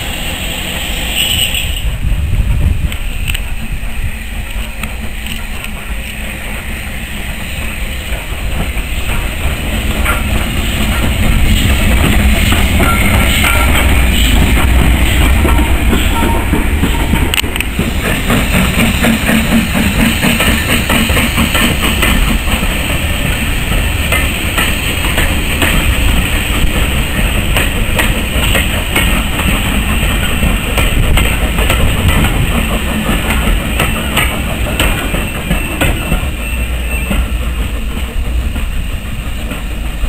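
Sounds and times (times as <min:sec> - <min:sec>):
steam train passing: 0:00.0 - 0:40.0
locomotive exhaust beats: 0:01.9 - 0:40.0.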